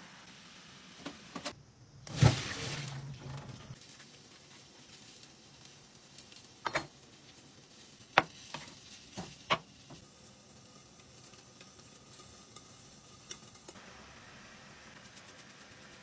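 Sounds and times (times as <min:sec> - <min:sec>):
faint hiss: 0:00.0 - 0:16.0.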